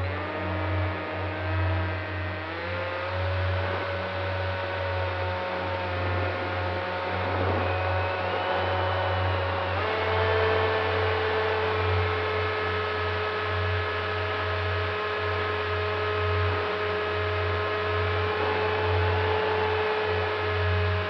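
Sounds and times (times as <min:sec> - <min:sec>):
electric motor propeller whine: 0:00.0 - 0:21.0.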